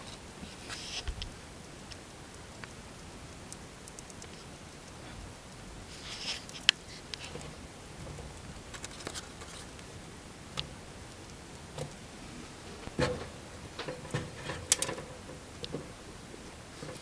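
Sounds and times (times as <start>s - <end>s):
gerbils gnawing and crunching: 0.0s - 17.0s
gerbils scrabbling: 3.3s - 17.0s.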